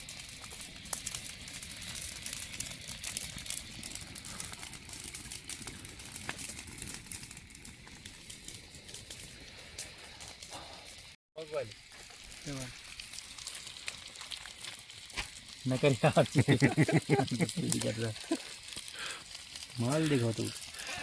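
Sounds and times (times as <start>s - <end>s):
food sizzling in a pan: 0.0s - 6.4s, 7.5s - 21.0s
wood fire crackling: 0.0s - 21.0s.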